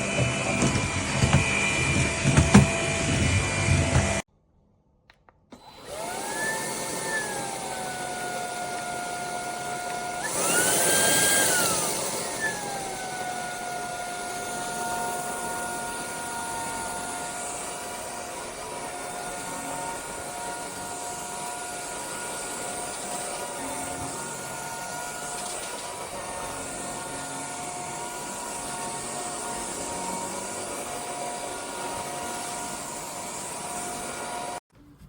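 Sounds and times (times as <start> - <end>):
vacuum motor whining: 0.0 - 4.2, 5.5 - 34.6.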